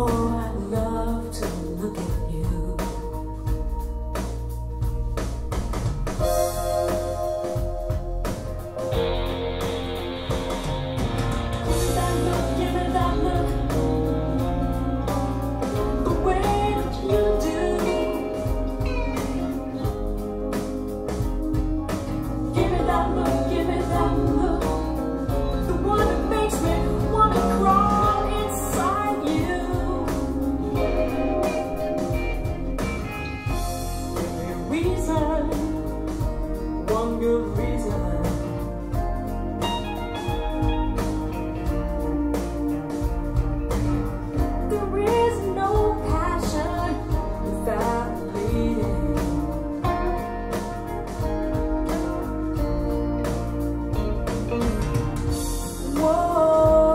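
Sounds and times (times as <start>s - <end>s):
rock song over speakers: 0.0s - 56.9s.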